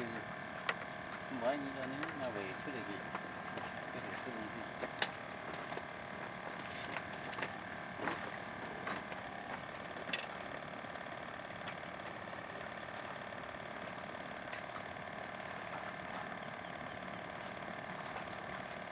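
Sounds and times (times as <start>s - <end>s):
engine running: 0.0s - 18.9s.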